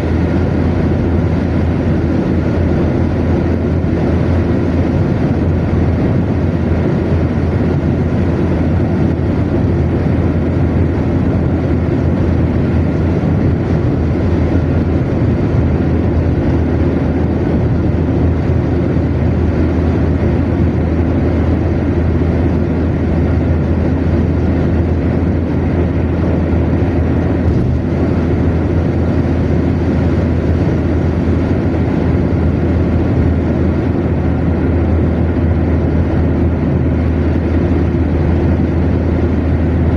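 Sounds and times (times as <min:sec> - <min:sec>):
car engine: 0:00.0 - 0:39.9
tyres rumbling on road: 0:00.0 - 0:39.9.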